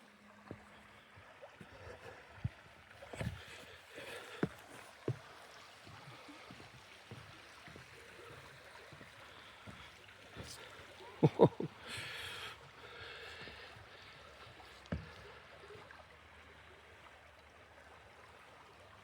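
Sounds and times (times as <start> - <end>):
stream running: 0.0 - 19.0.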